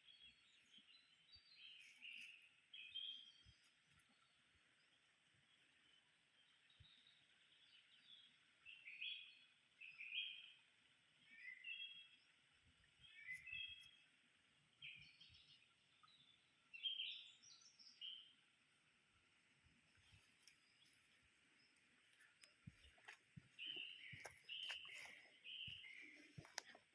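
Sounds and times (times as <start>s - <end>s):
faint bird chirping: 0.0s - 26.9s.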